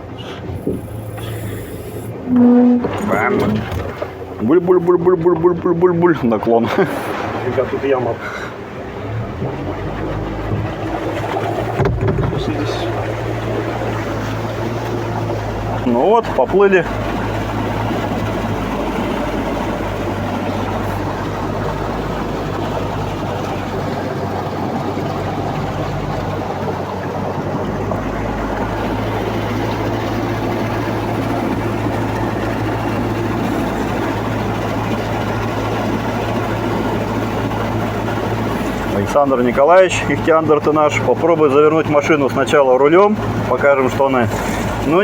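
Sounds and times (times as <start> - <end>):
engine running with low hum: 0.0 - 45.0.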